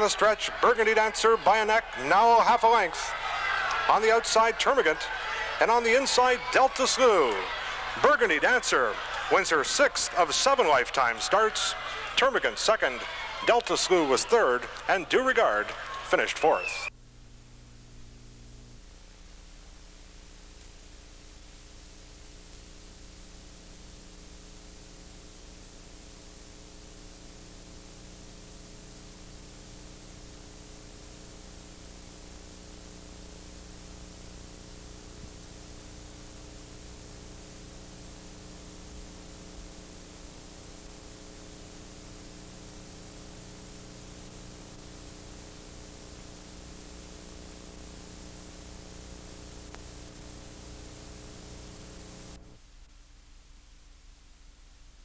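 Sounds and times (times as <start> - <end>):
low electrical hum: 0.0 - 55.0
tape hiss: 0.0 - 55.0.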